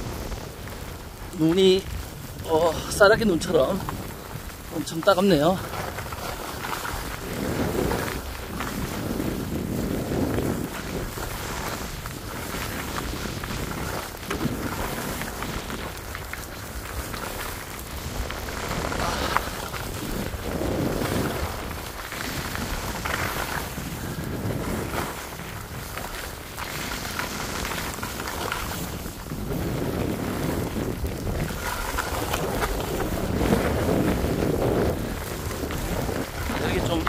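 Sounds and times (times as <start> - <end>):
wet snow pelting down: 0.0 - 37.0
wind noise on microphone: 0.0 - 37.0.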